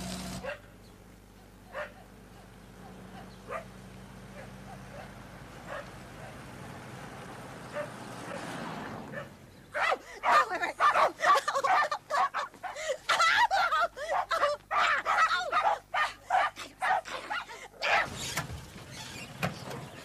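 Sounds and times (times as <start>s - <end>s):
dogs barking: 0.4s - 0.8s, 1.4s - 6.5s, 7.7s - 18.2s.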